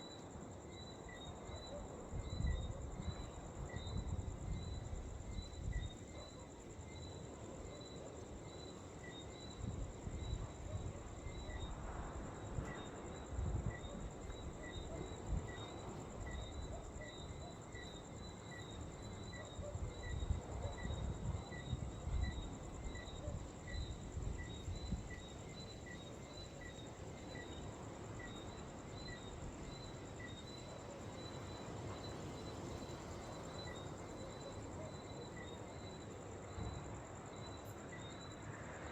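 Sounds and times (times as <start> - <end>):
insect chirps: 0.0 - 38.9.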